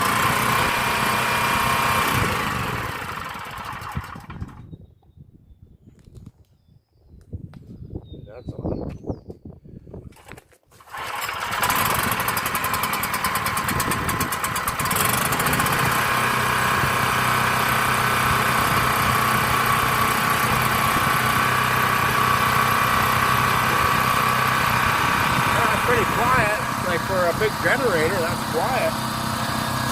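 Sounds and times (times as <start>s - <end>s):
generator engine starting and running: 0.0s - 4.8s, 10.7s - 29.9s.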